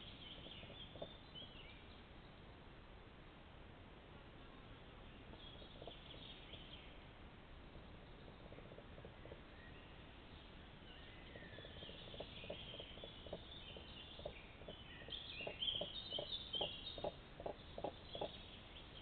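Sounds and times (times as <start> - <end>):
songbirds singing: 0.0 - 2.5, 5.0 - 7.2, 7.8 - 19.0.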